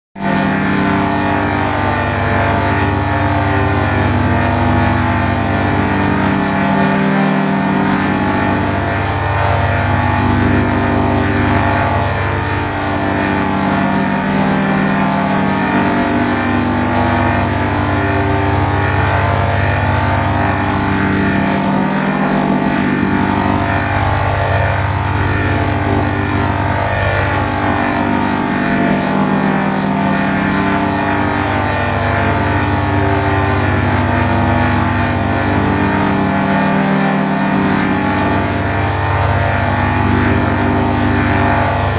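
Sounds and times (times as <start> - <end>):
droning layered chord: 0.2 - 41.9.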